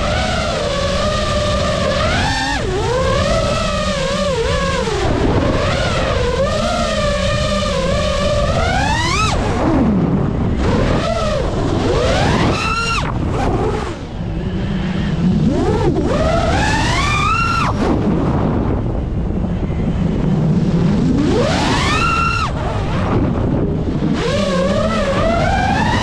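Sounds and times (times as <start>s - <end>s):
quadcopter motors whining: 0.0s - 26.0s
wind rushing: 0.0s - 26.0s.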